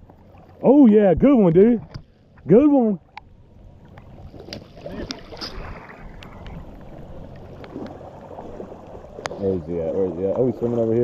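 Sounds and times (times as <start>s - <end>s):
boat on open water: 0.0s - 11.0s.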